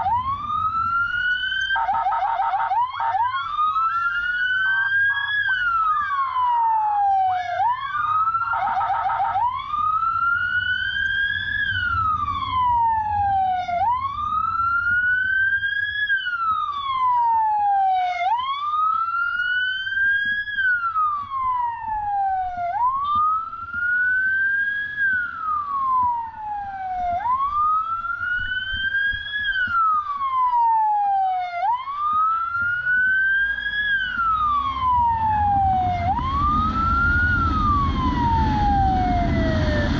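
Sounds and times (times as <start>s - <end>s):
motorcycle siren wailing: 0.0s - 39.9s.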